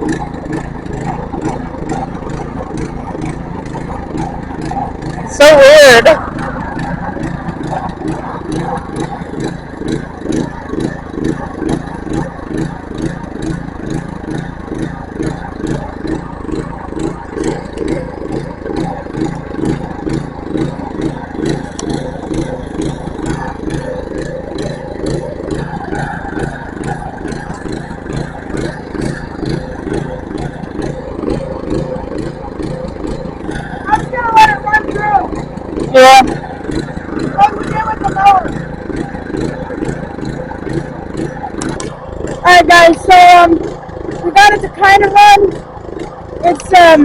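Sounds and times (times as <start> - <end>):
small engine running rough: 0.0 - 47.0.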